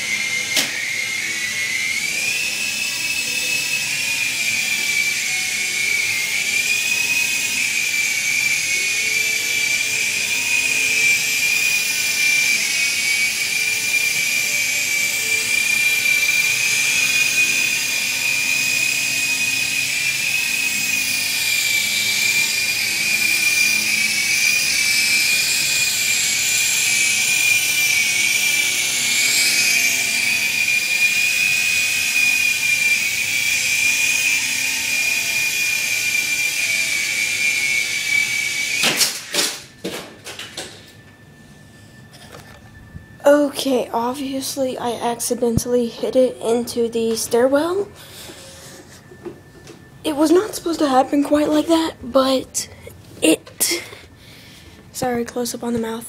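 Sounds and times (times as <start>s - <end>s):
helicopter rotors whirring: 0.0s - 56.0s
toy helicopter motor whine: 0.0s - 56.0s.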